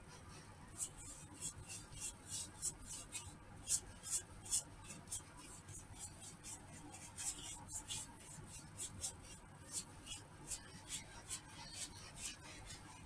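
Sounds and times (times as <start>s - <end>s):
brush swishing on wooden bowl: 0.0s - 13.0s
low steady hum: 0.0s - 13.0s.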